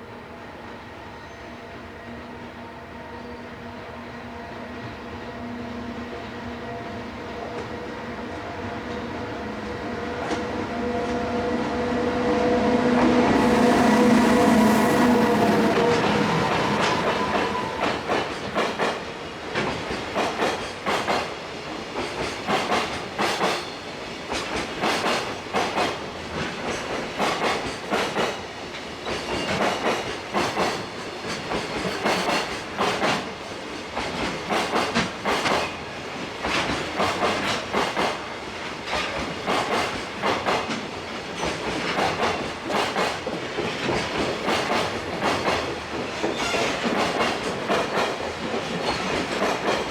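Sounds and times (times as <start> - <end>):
freight train rumbling: 2.0 - 49.9.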